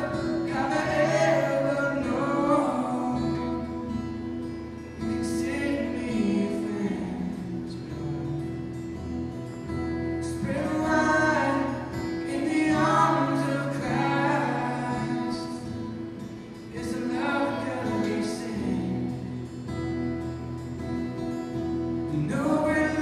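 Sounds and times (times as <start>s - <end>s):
acoustic guitar: 0.0s - 23.0s.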